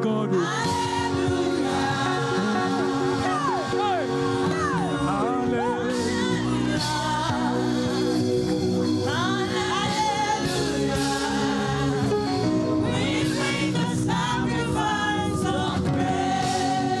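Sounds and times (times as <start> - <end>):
gospel choir singing: 0.0 - 17.0
live band playing a beat: 0.5 - 17.0.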